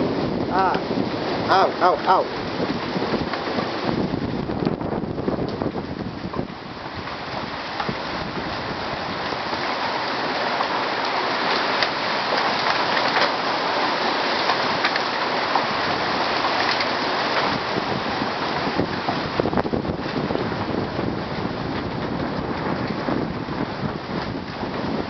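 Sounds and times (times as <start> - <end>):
hail and rain pelting down: 0.0 - 25.0.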